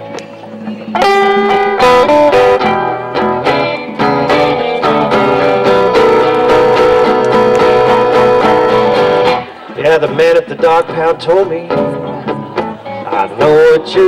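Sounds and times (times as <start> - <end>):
blues band playing: 0.0 - 14.0
lead guitar: 0.0 - 14.0.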